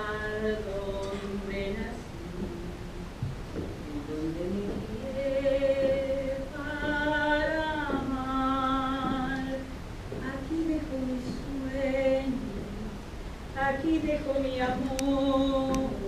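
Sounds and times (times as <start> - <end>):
person singing slow melody: 0.0 - 16.0.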